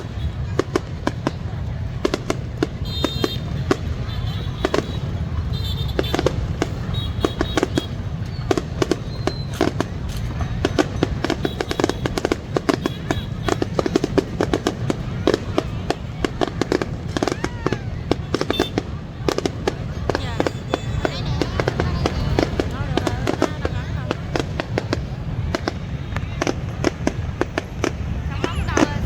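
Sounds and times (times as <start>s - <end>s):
fireworks bangs and crackling: 0.0s - 29.0s
fireworks whistling: 0.0s - 29.0s.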